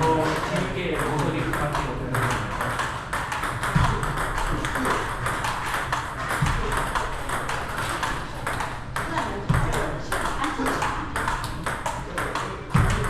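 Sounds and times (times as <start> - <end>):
ball bouncing on table: 0.0 - 13.0
table tennis ball on paddles: 0.0 - 13.0.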